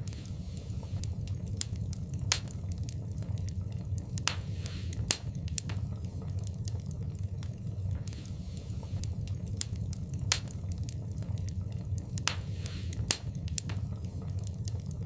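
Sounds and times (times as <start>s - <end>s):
fire hissing: 0.0s - 15.0s
fireplace fire crackling and popping: 0.0s - 15.0s.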